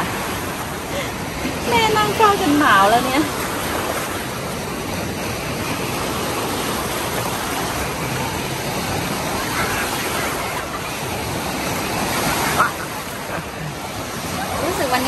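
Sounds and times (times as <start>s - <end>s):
waves splashing in pool: 0.0s - 15.0s.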